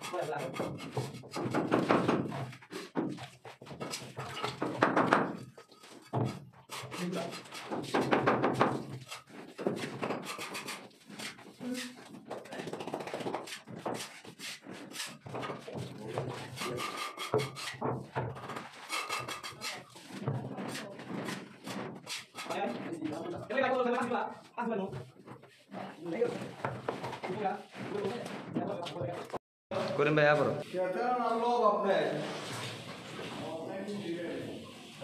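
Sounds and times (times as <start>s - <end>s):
wood scraping: 0.0s - 35.0s.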